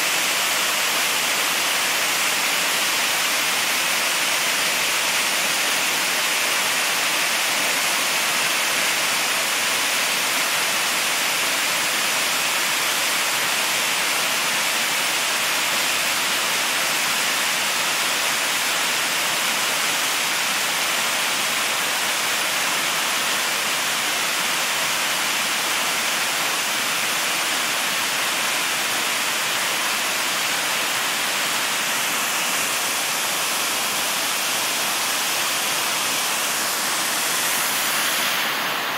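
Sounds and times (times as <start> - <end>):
waterfall rushing onto rocks: 0.0 - 38.9.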